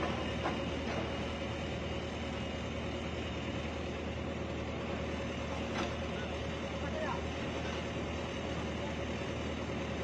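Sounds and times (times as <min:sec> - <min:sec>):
diesel engines humming: 0:00.0 - 0:10.0
thin steady whine: 0:00.0 - 0:10.0.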